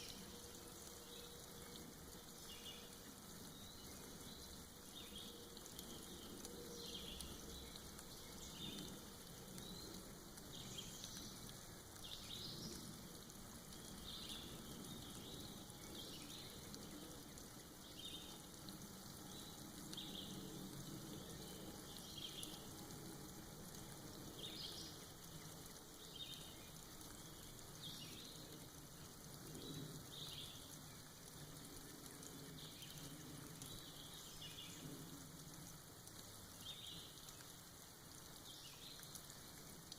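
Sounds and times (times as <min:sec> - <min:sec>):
soft rain hiss: 0:00.0 - 0:39.9
water dripping ticks: 0:00.0 - 0:39.9.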